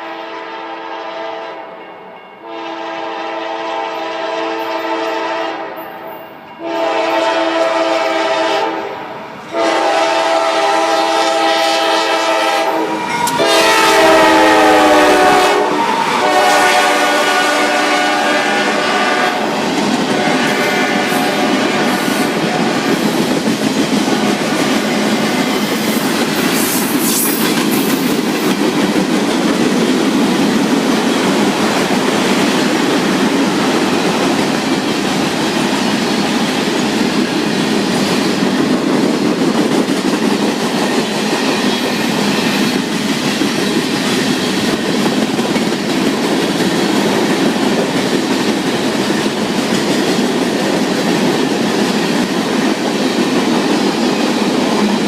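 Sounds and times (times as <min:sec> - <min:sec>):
train wheels rumbling on rails: 0:06.6 - 0:55.0.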